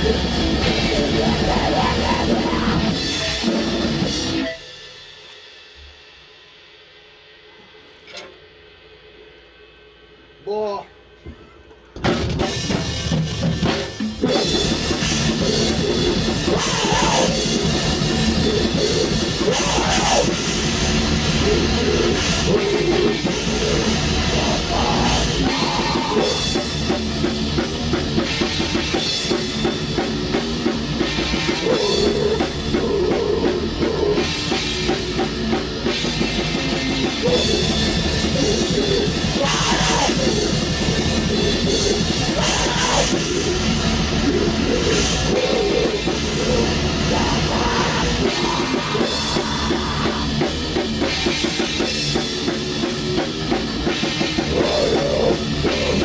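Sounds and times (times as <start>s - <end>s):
metal band playing: 0.0s - 5.1s, 12.0s - 56.0s.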